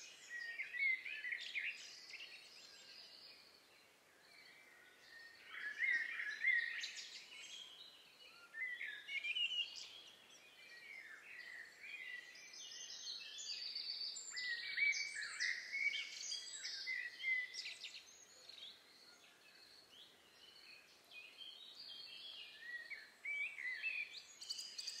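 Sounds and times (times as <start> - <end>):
faint background hiss: 0.0 - 25.0
songbirds singing: 0.0 - 25.0.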